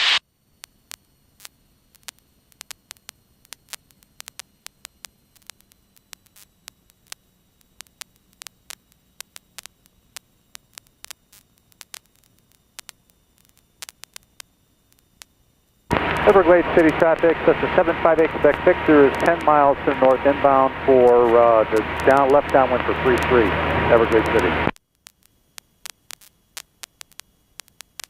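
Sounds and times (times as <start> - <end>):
radio static crackle: 0.0 - 28.0
faint low hum: 0.4 - 27.8.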